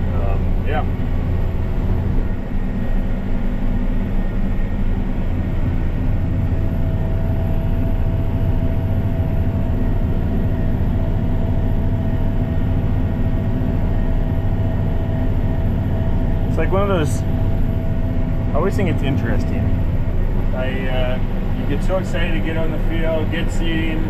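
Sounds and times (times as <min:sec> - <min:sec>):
faint steady whine: 0:00.0 - 0:24.0
tractor engine hum: 0:00.0 - 0:24.0.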